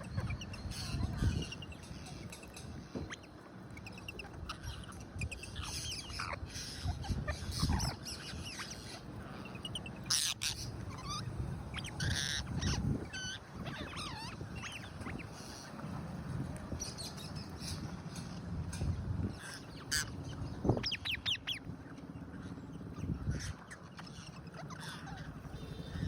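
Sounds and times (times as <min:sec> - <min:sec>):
parakeets screeching: 0:00.0 - 0:26.0.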